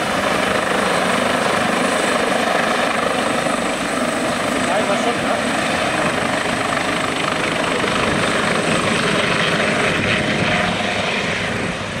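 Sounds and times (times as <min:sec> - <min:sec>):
helicopter hovering and lifting off: 0:00.0 - 0:12.0.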